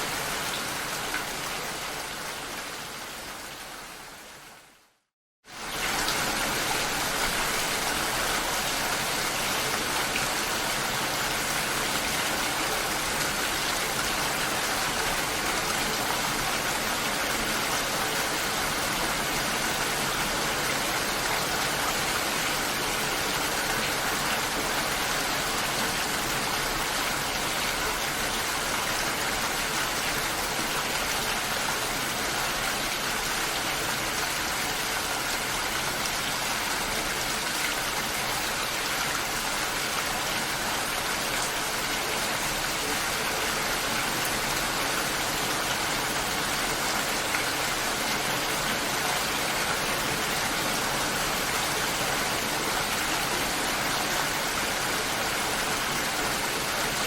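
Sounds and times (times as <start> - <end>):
dense rain hiss: 0.0 - 57.0.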